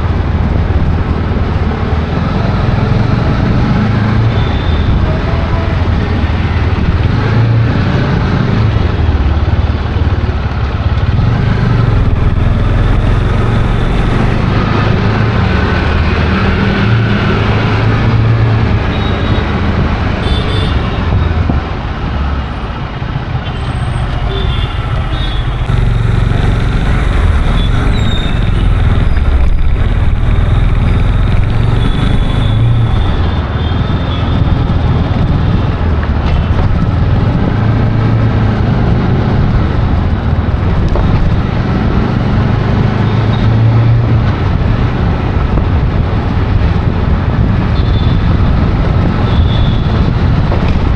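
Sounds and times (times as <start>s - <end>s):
road traffic noise: 0.0s - 50.9s.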